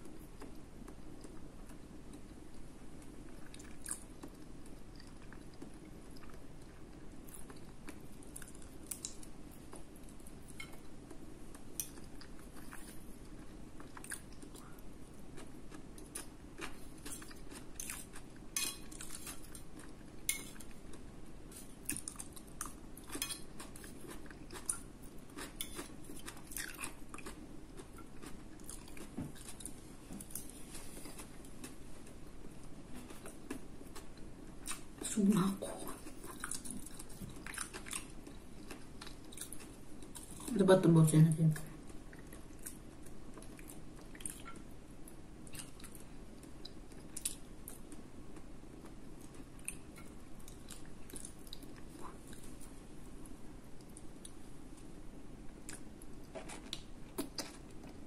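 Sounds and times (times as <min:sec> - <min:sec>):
person chewing food: 0:00.0 - 0:35.0, 0:35.8 - 0:40.5, 0:41.8 - 0:58.0.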